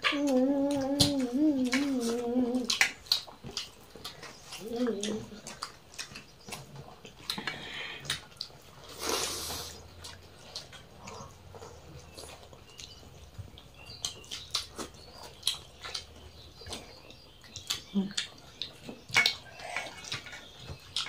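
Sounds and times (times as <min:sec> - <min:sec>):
fingers mixing food: 0:00.0 - 0:21.0
mouths chewing: 0:00.0 - 0:21.0.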